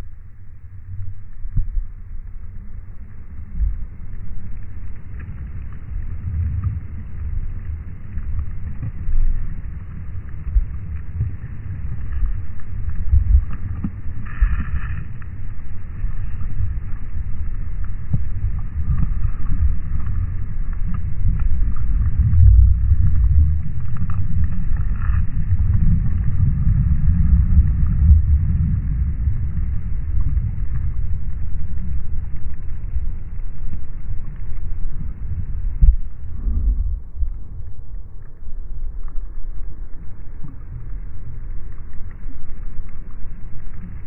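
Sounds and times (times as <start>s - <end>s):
muffled underwater rumble: 0.0s - 44.0s.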